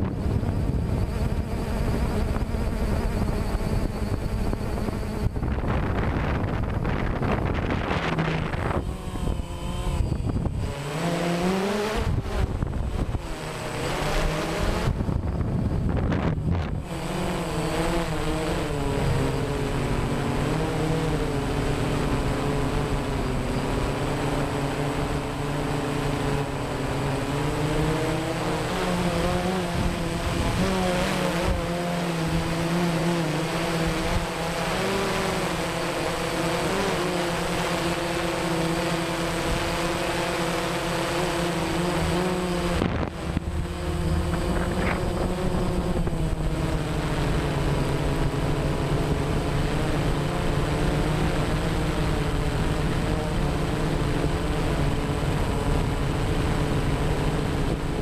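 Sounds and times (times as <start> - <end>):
wind hiss: 0.0 - 52.6
drone motors humming: 0.0 - 58.0.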